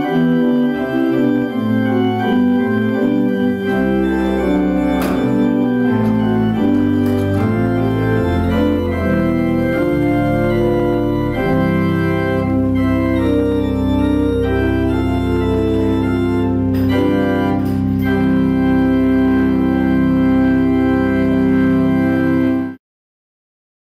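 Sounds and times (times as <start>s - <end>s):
church organ playing chords: 0.0s - 22.8s.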